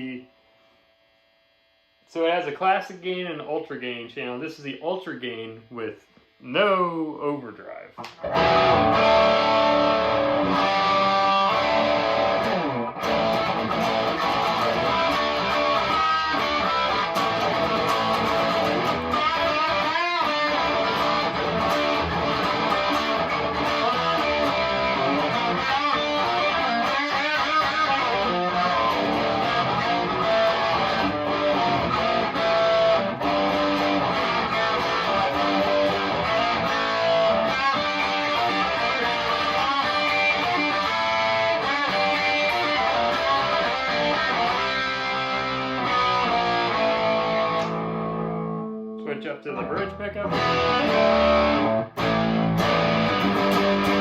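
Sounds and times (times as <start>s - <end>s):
distorted electric guitar riffing: 0.0s - 0.3s, 2.1s - 54.0s.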